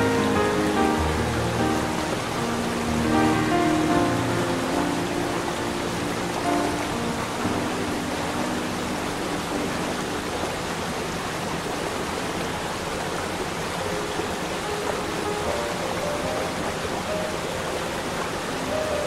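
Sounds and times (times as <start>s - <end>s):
waterfall rushing over rock: 0.0s - 19.0s.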